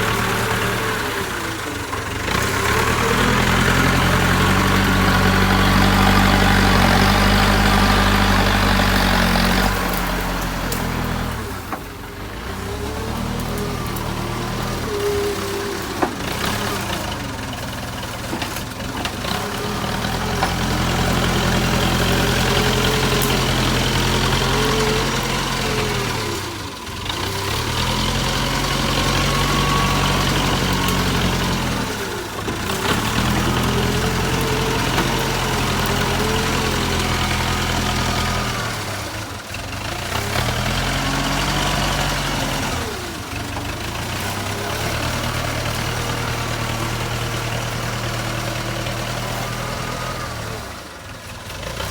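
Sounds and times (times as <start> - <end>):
diesel engine working: 0.0 - 51.9
engine whine: 0.0 - 51.9.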